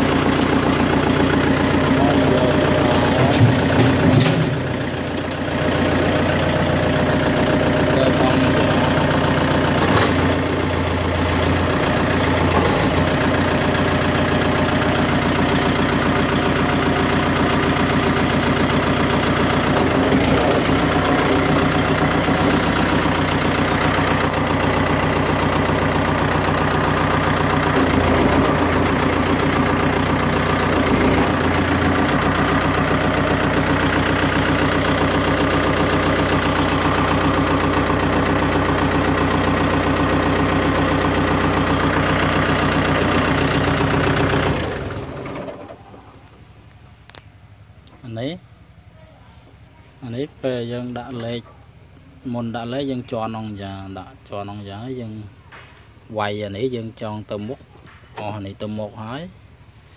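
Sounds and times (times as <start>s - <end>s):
diesel tractor engine idling: 0.0s - 59.9s.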